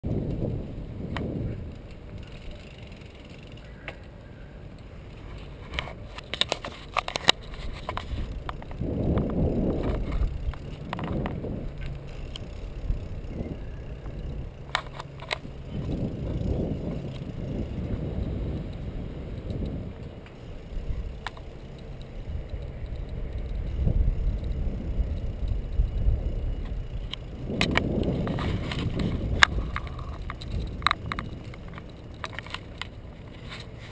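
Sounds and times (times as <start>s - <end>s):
wind buffeting microphone: 0.0s - 3.5s, 5.0s - 33.9s
bicycle tyres rumbling on pavement: 0.0s - 33.9s
bicycle rattling clicks: 0.1s - 33.9s.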